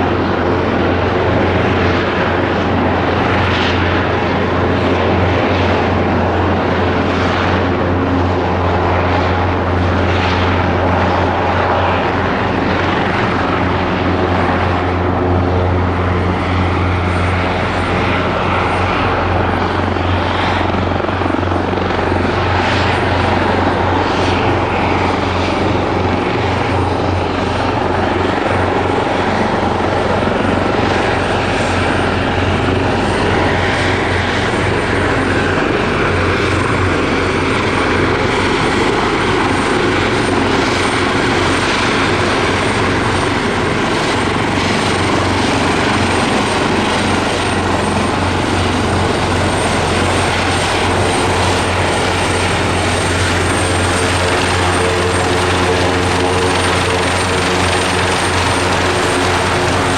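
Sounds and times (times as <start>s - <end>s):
helicopter running: 0.0s - 59.9s.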